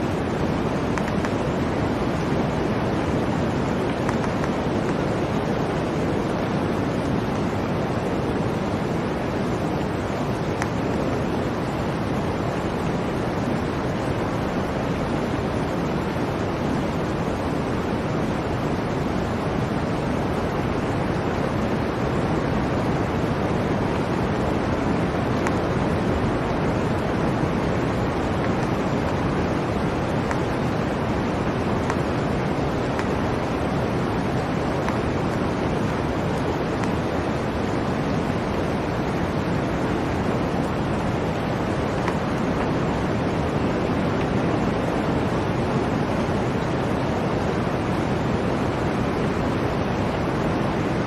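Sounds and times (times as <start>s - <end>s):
blizzard wind rushing: 0.0s - 51.0s.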